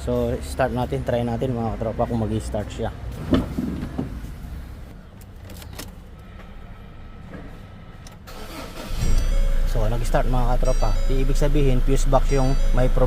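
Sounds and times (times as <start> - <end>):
diesel engine starting and idling: 0.1 - 13.0.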